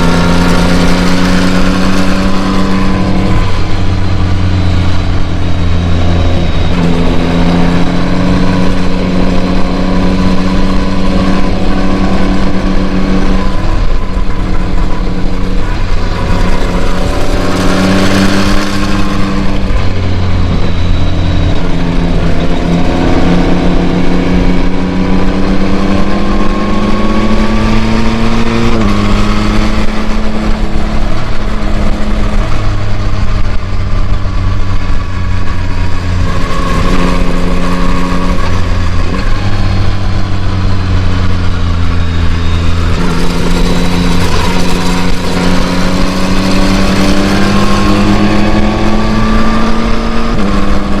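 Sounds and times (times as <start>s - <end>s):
motorcycle engine running: 0.0s - 51.0s
rush of noise: 0.0s - 51.0s.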